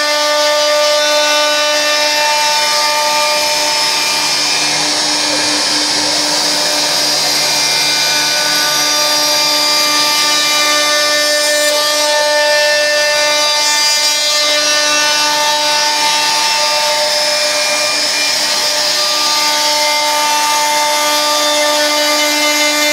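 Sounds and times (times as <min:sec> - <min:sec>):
router spindle whine cutting wood: 0:00.0 - 0:22.9.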